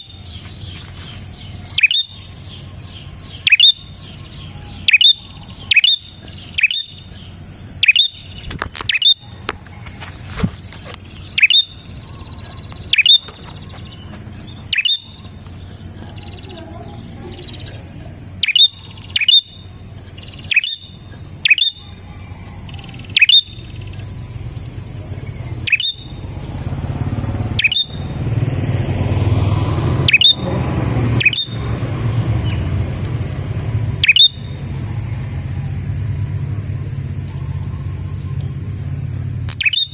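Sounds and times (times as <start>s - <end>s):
bird calling with falling notes: 0.0s - 39.9s.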